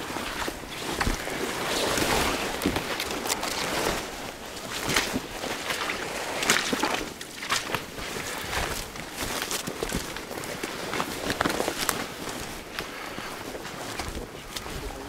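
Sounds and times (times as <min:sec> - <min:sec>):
footsteps squelching through bog: 0:00.0 - 0:15.0.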